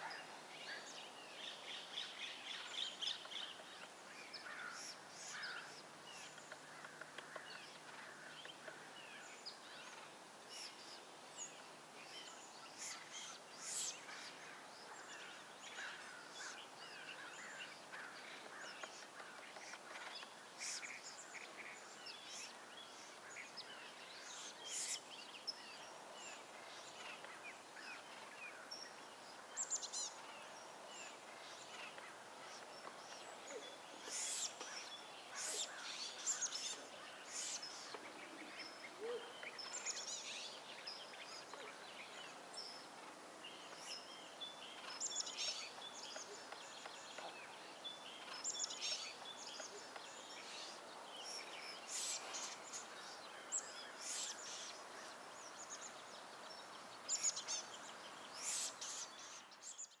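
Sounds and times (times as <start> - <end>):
background hiss: 0.0 - 60.0
bird calls and chirps: 0.0 - 60.0.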